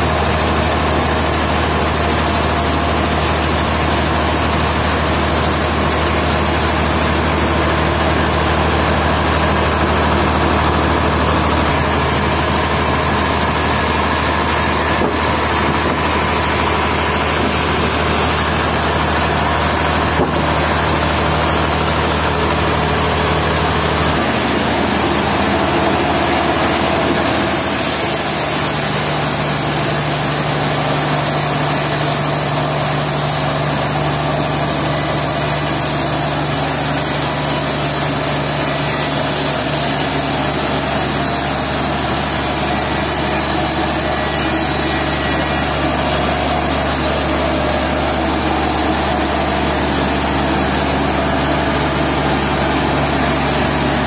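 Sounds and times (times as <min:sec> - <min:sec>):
sawmill engine droning: 0:00.0 - 0:54.0.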